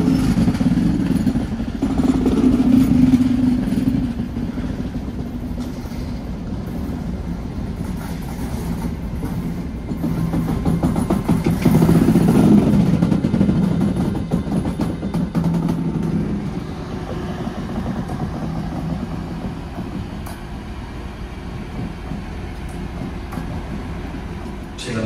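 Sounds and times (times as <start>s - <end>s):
electric locomotive humming: 0.0s - 25.0s
wheel clatter on rails: 0.0s - 25.0s.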